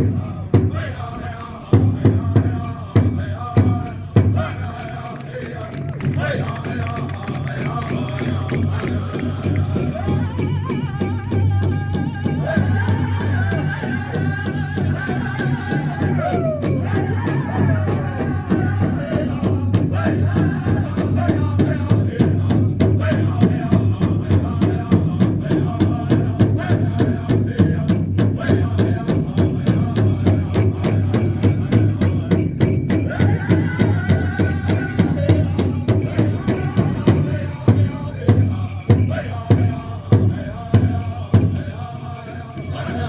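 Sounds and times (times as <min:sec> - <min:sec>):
voices singing high melody: 0:00.0 - 0:43.0.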